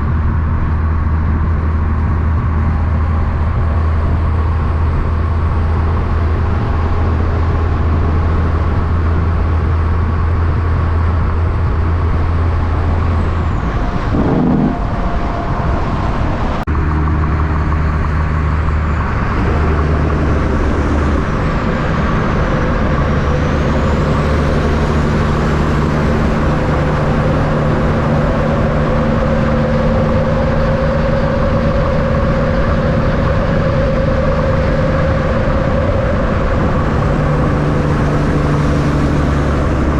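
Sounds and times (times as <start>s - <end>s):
diesel truck engines: 0.0s - 39.9s
road traffic: 0.0s - 39.9s.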